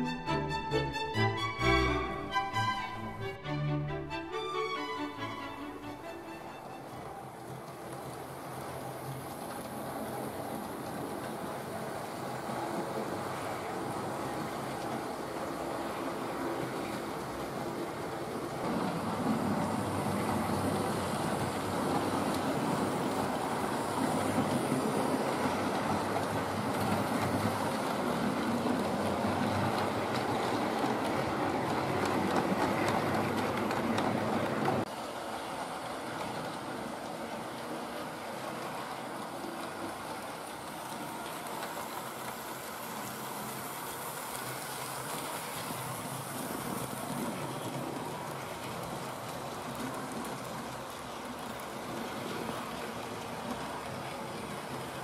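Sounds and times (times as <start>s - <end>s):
wheels rattling over rails: 5.1s - 55.0s.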